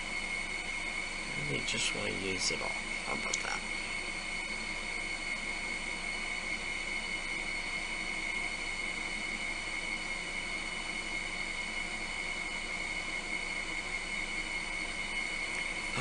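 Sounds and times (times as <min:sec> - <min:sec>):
air conditioner hiss: 0:00.0 - 0:16.0
high whine: 0:00.0 - 0:16.0.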